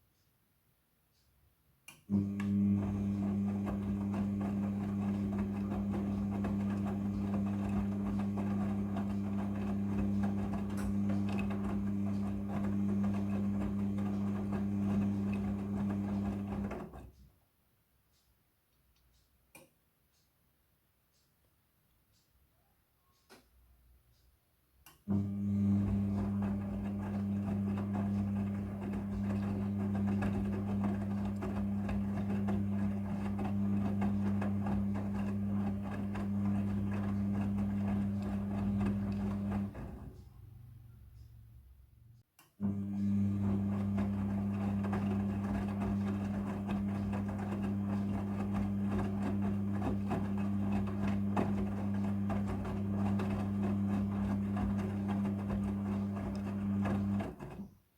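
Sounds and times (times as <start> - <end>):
washing machine drum motor humming: 2.1 - 17.2, 25.0 - 41.8, 42.6 - 57.7.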